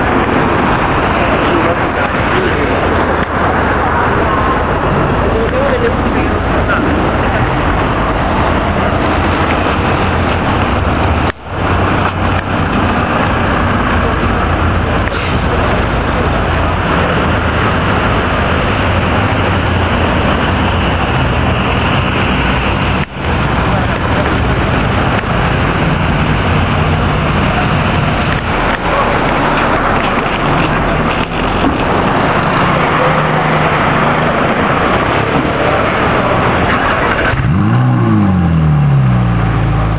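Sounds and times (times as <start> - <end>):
sports car engine rumbling: 0.0 - 39.9
street noise: 0.0 - 39.9.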